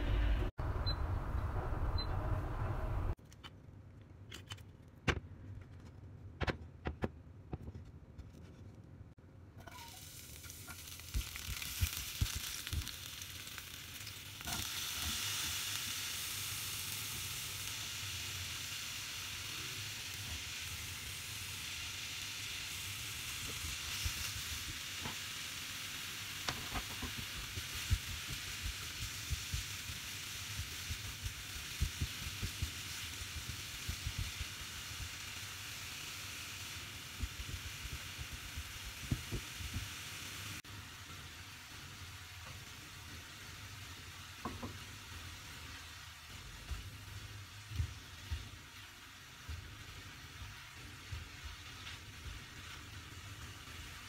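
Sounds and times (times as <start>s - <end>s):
vegetables sizzling in a frying pan: 9.6s - 54.0s.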